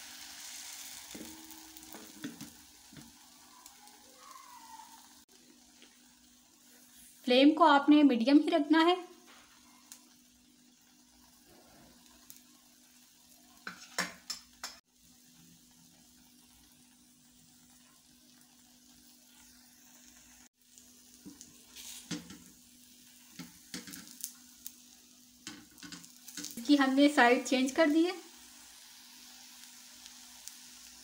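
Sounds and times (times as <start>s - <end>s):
batter sizzling in a pan: 0.0s - 31.0s.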